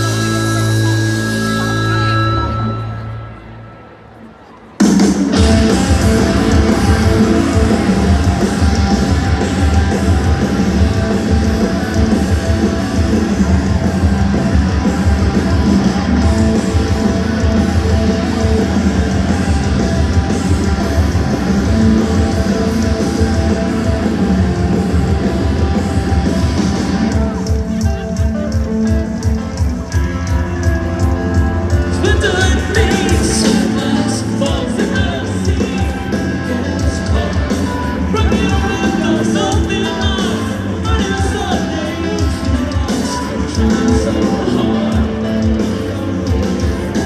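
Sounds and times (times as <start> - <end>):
live rock band playing: 0.0 - 3.8, 4.7 - 47.0.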